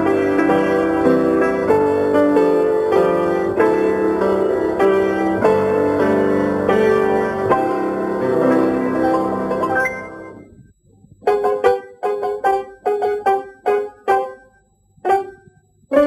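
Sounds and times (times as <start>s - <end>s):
silent film piano music: 0.0s - 16.0s.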